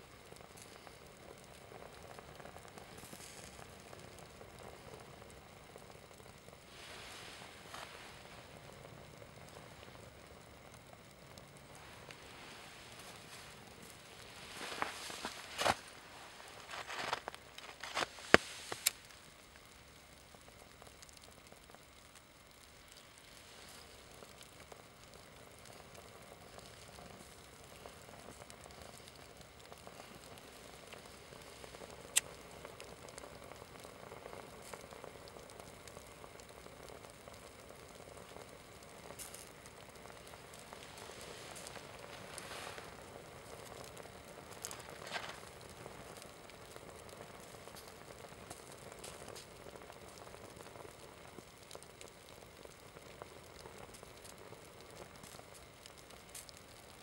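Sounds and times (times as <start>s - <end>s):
burning fabric crackle: 0.0s - 57.0s.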